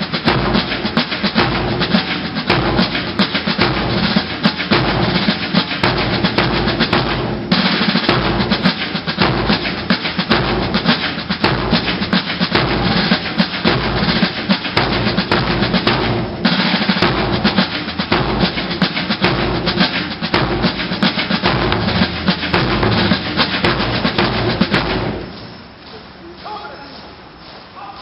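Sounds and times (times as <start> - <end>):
bass drum beats: 0.0 - 25.5
snare drum rolls: 0.0 - 28.0.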